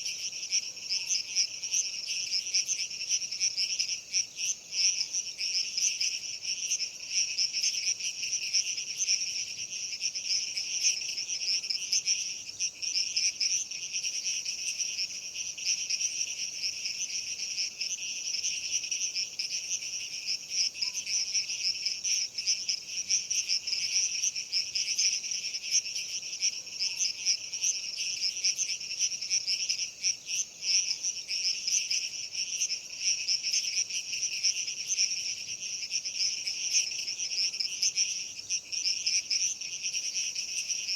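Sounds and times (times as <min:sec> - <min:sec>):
chirring insects: 0:00.0 - 0:40.9.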